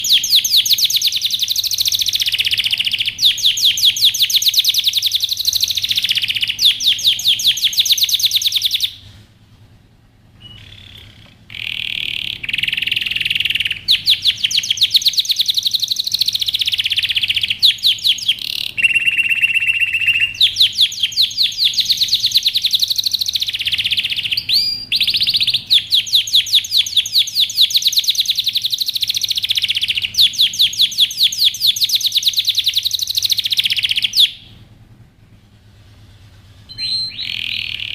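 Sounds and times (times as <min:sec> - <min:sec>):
canary singing trills: 0:00.0 - 0:09.1, 0:10.4 - 0:34.6, 0:36.6 - 0:37.9.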